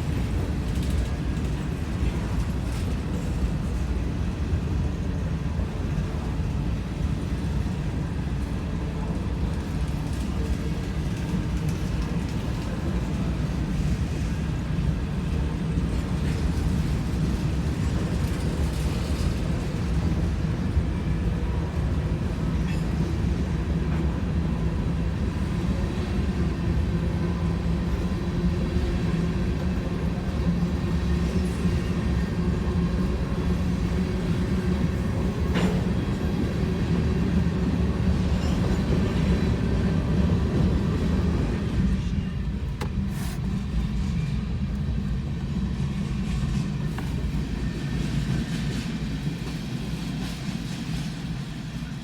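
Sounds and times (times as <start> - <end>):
train wheels rumbling on rail: 0.0 - 52.0
train clank: 9.0 - 27.8, 29.2 - 52.0.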